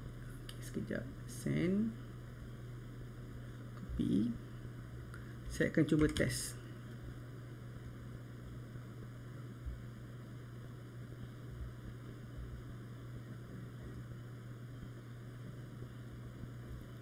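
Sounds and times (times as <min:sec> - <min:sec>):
low hum with faint hiss: 0:00.0 - 0:17.0.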